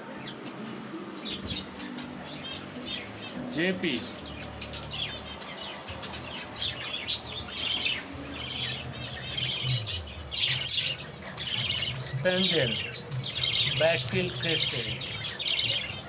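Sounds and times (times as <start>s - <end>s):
caged birds chirping and twittering: 0.0s - 16.0s.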